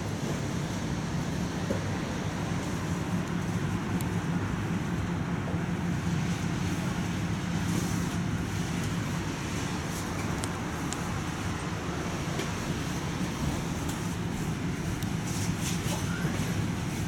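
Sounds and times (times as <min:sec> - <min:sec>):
tram interior hum and rumble: 0:00.0 - 0:17.0.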